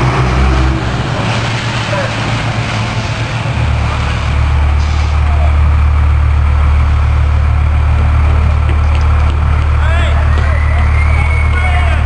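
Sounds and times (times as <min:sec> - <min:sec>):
fire engine drone: 0:00.0 - 0:12.0
outdoor noise: 0:00.0 - 0:12.0.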